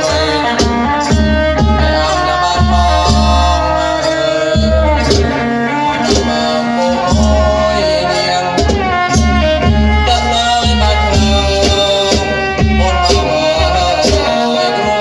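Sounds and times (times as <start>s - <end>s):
hand drums beating: 0.0s - 15.0s.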